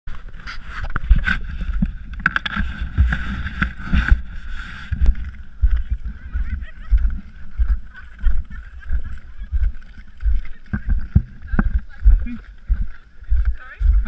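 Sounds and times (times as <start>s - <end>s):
footsteps crunching on snow: 0.1s - 14.0s
muffled footstep thumps: 1.0s - 14.0s.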